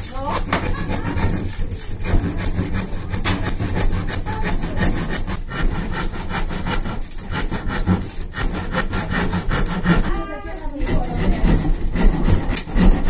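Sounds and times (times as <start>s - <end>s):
saw cutting wood: 0.0s - 13.0s.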